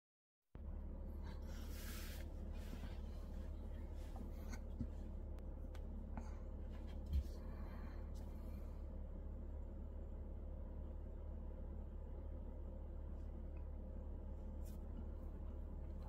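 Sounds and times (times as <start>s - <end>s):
steady low hum: 0.6s - 16.0s.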